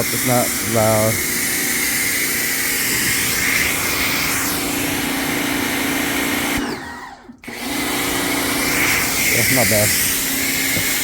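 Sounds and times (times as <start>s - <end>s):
pressure washer motor: 0.0s - 11.0s.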